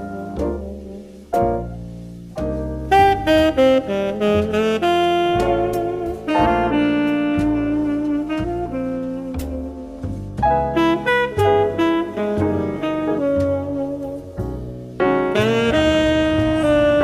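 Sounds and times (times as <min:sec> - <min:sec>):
saxophone melody: 0:00.0 - 0:01.7, 0:02.8 - 0:14.6, 0:15.2 - 0:17.0
bass: 0:00.0 - 0:17.0
piano: 0:00.0 - 0:17.0.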